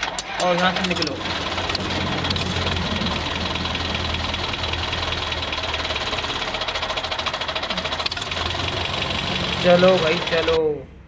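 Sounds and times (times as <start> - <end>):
tractor engine chugging: 0.5 - 10.6.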